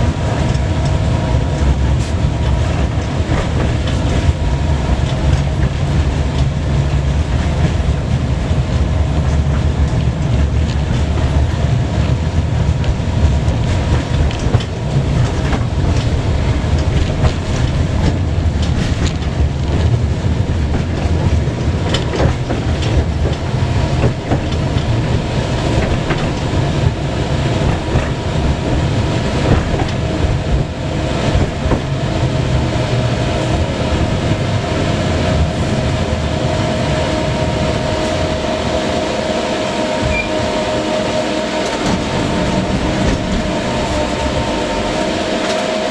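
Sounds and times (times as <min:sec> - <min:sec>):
tram rumble from inside: 0:00.0 - 0:45.9.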